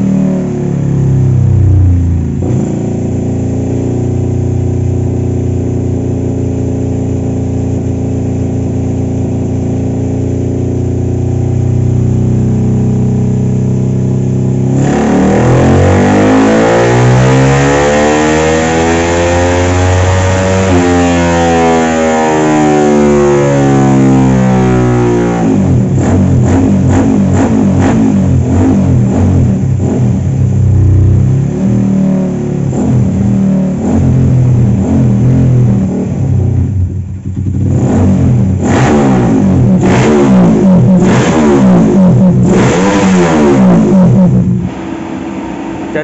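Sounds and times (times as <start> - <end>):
motorcycle engine on dyno: 0.0 - 46.0.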